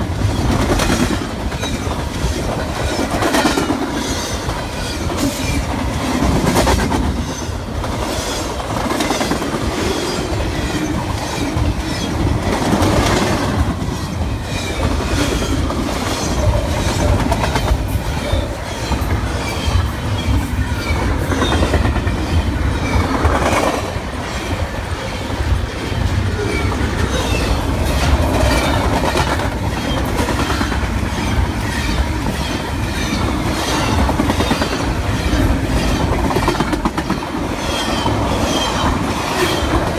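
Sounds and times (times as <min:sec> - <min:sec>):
train wheels rumbling on rail: 0:00.0 - 0:39.9
wheels clickety-clack: 0:00.0 - 0:39.9.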